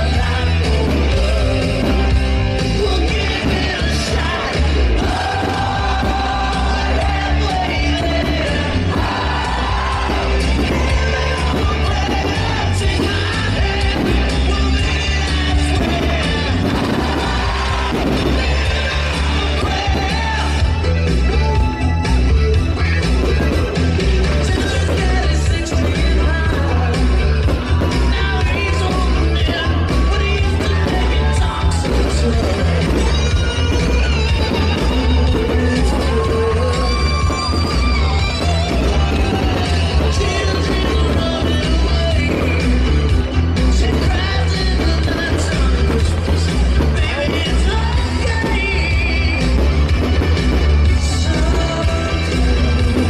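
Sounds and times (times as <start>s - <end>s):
heavy bass beat and drums: 0.0s - 53.0s
person singing: 0.0s - 53.0s.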